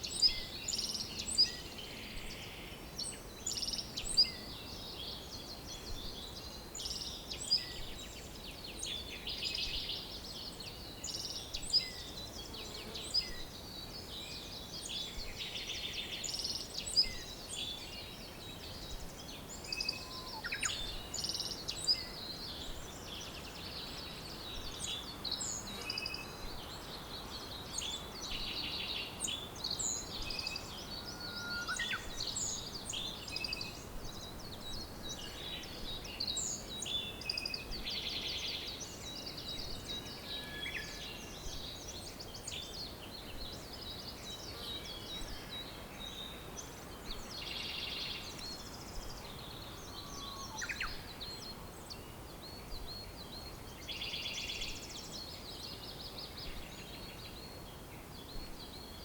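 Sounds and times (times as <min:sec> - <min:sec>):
faint outdoor hiss: 0:00.0 - 0:59.0
songbirds singing and calling: 0:00.0 - 0:59.0.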